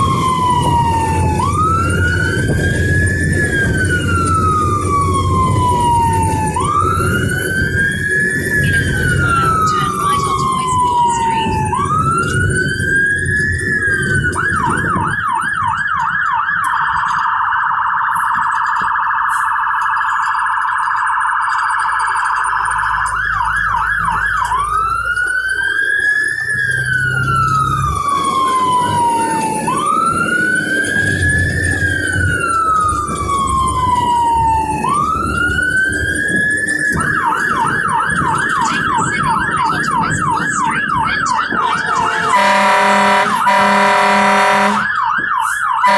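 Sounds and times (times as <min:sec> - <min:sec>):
fire engine siren: 0:00.0 - 0:45.9
truck engine rumbling: 0:00.0 - 0:45.9.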